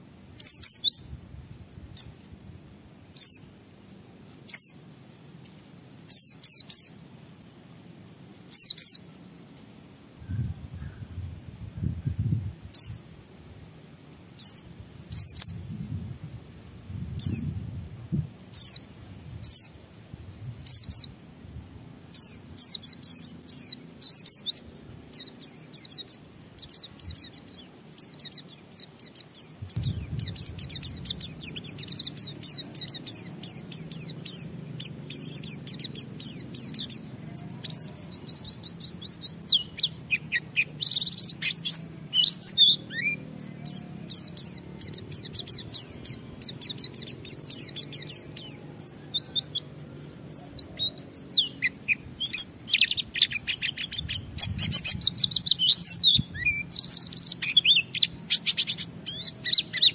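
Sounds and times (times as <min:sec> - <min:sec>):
white-eye chirping and twittering: 0:00.4 - 0:02.2, 0:03.1 - 0:03.6, 0:04.4 - 0:05.0, 0:06.1 - 0:07.0, 0:08.5 - 0:09.4, 0:11.8 - 0:13.1, 0:13.7 - 0:15.8, 0:16.5 - 0:17.6, 0:18.5 - 0:19.8, 0:20.4 - 0:21.2, 0:22.1 - 0:59.9.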